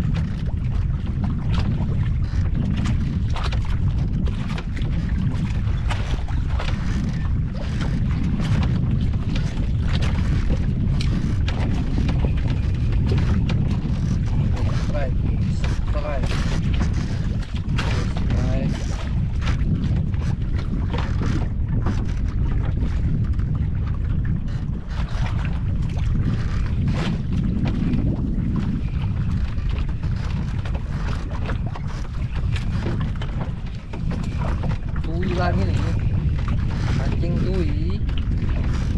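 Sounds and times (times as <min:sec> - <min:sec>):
water slapping: 0:00.0 - 0:38.9
wind buffeting microphone: 0:00.0 - 0:38.9.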